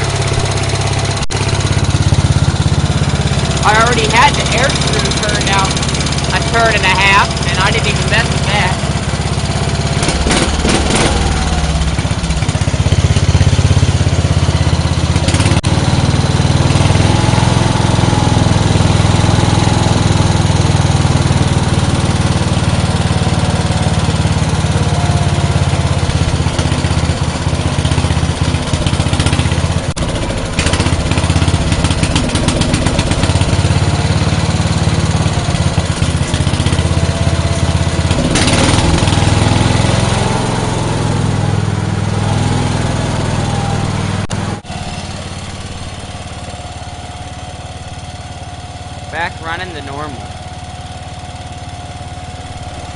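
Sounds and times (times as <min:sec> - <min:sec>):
garden tractor engine running: 0:00.0 - 0:52.9.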